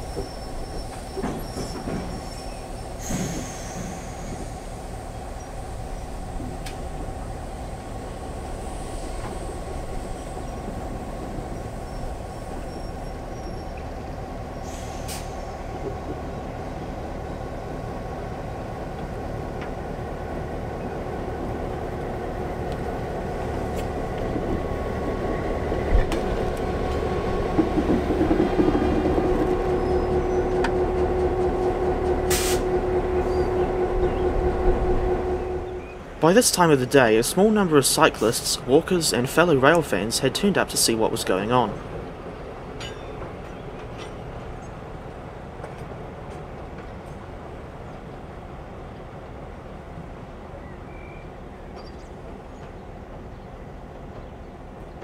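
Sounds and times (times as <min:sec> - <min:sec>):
diesel locomotive engine hum: 0:00.0 - 0:55.0.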